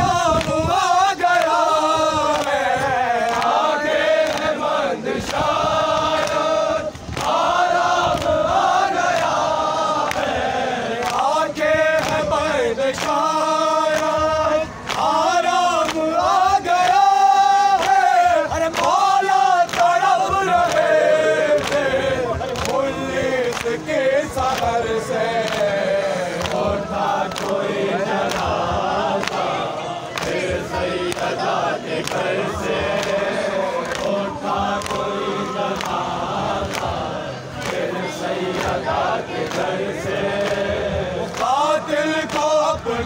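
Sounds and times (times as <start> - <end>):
men chanting in unison: 0.0 - 43.0.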